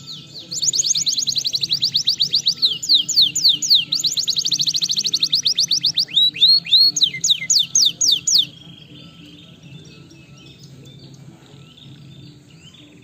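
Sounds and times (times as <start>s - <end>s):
canary singing: 0.0s - 13.0s
faint bird chirps: 0.0s - 13.0s.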